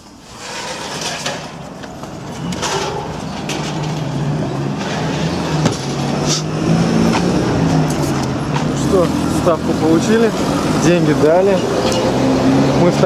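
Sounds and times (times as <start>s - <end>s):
street noise: 0.0s - 13.0s
car engine humming: 1.9s - 13.0s.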